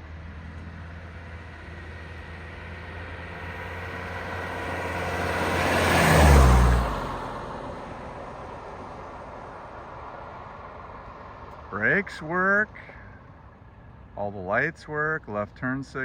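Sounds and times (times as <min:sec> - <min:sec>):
diesel car driving past: 0:00.0 - 0:16.0.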